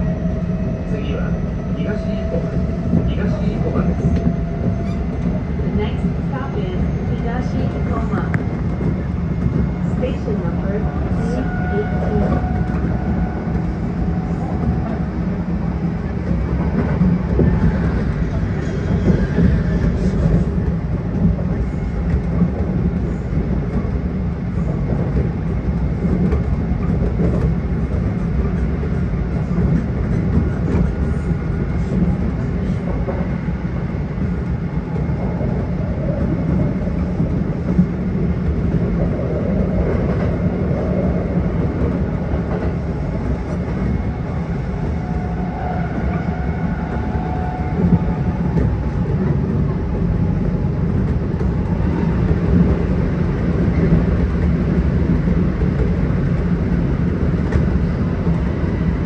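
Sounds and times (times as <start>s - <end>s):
train wheel and track noise: 0.0s - 59.0s.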